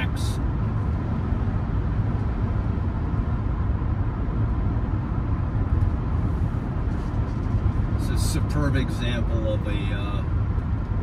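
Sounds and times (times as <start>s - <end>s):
car engine hum: 0.0s - 11.0s
road and tyre rumble: 0.0s - 11.0s.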